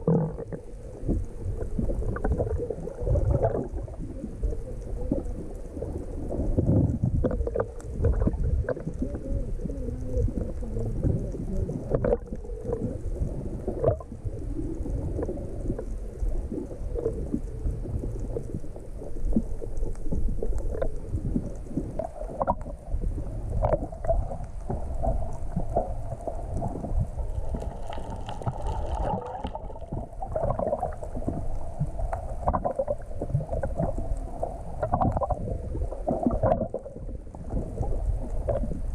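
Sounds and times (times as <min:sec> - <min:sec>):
faint steady hum: 0:00.0 - 0:38.9
muffled underwater rumble and gurgling: 0:00.0 - 0:38.9.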